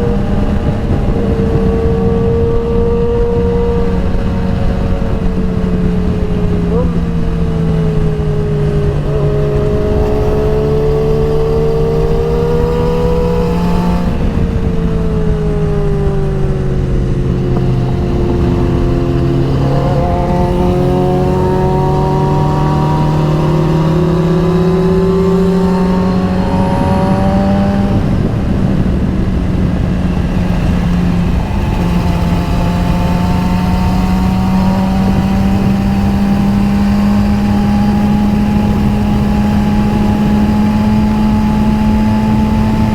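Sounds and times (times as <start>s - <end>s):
motorcycle engine running: 0.0s - 42.9s
rushing wind noise: 0.0s - 42.9s.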